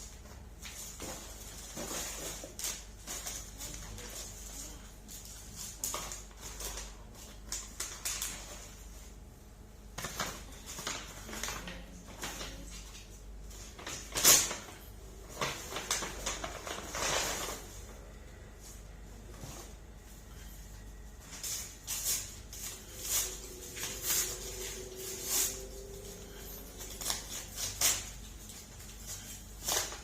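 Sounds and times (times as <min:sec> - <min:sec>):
gift wrapping rustling and crinkling: 0:00.6 - 0:09.0, 0:10.0 - 0:18.0, 0:21.1 - 0:30.0.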